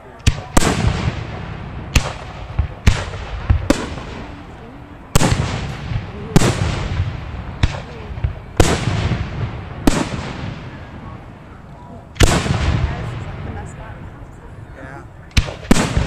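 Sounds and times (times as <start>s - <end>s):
fireworks bangs with echo: 0.0s - 14.3s, 15.2s - 16.0s.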